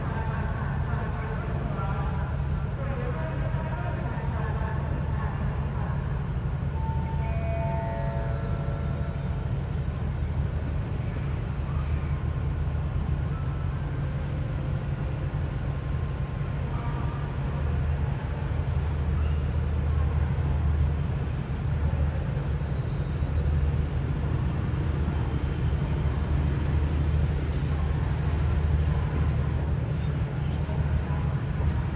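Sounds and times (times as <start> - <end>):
diesel locomotive engine idling: 0.0 - 31.9.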